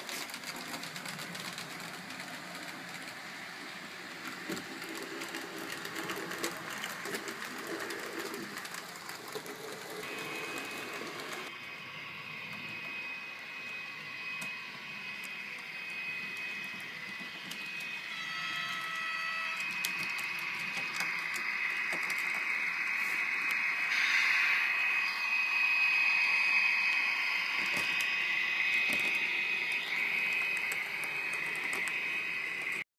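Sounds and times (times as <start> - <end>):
model train motor whine: 0.1 - 32.8.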